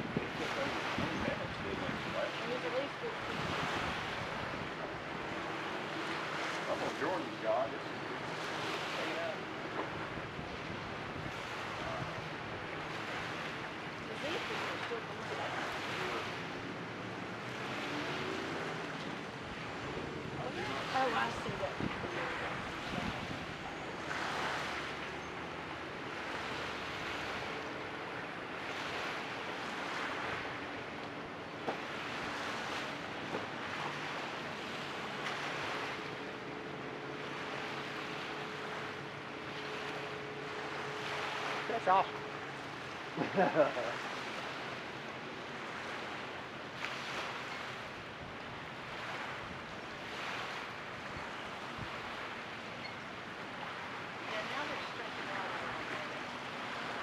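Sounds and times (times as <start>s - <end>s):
distant motorboats humming: 0.0s - 57.0s
wind and water noise: 0.0s - 57.0s.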